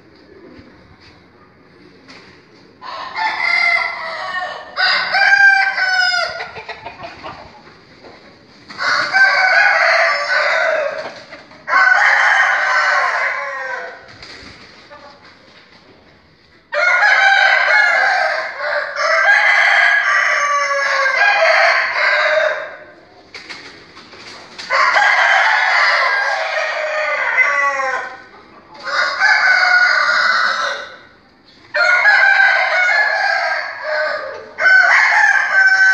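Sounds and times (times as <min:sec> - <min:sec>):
roosters crowing: 0:02.6 - 0:14.1, 0:16.6 - 0:23.0, 0:24.6 - 0:35.9.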